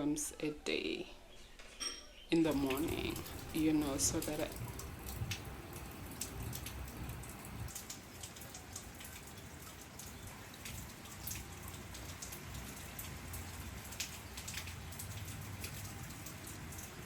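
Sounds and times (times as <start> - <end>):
rain hissing: 2.5 - 17.0
raindrops ticking on surface: 2.5 - 17.0.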